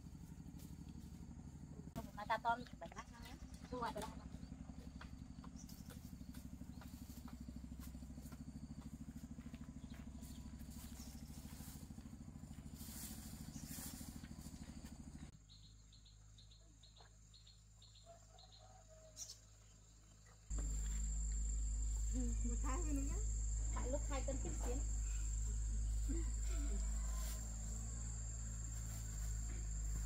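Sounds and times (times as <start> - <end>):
small engine running: 0.0 - 15.3, 20.5 - 30.0.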